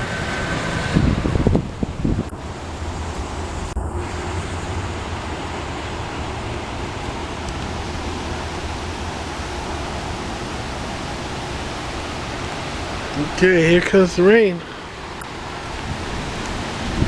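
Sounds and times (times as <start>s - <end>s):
wind and rain rushing: 0.0s - 17.0s.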